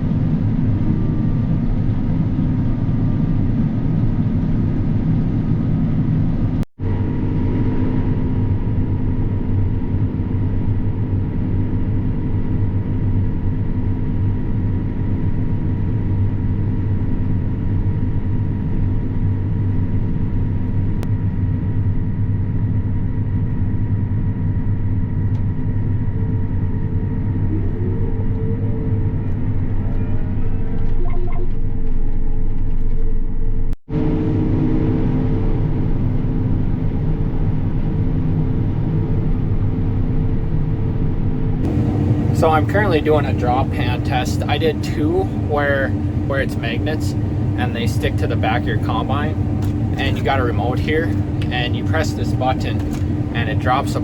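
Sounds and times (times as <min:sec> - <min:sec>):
combine harvester droning: 0:00.0 - 0:54.0.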